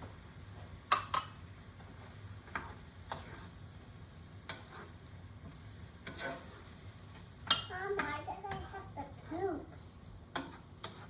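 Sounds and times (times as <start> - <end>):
spoon scraping a skillet: 0.0 - 11.0.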